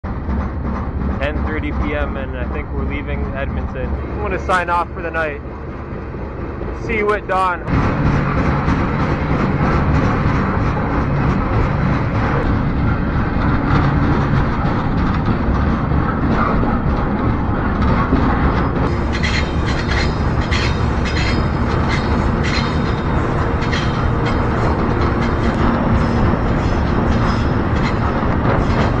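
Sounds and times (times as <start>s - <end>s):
train rumble: 0.0s - 29.0s
sharp clicks of train: 0.1s - 29.0s.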